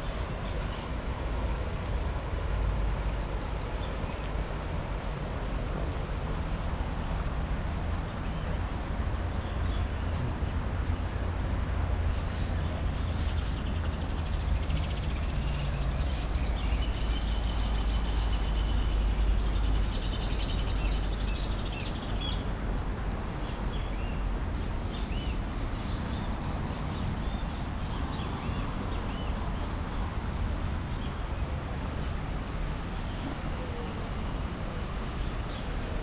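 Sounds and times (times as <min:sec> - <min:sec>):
rushing outdoor noise: 0:00.0 - 0:36.0.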